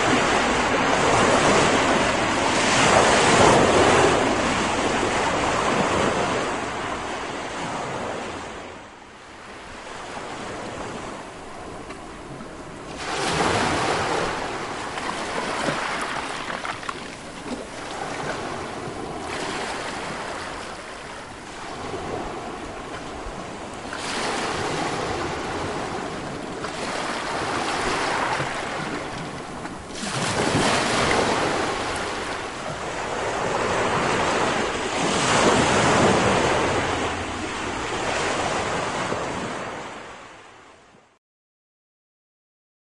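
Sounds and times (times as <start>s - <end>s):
waves breaking: 0.0s - 40.8s.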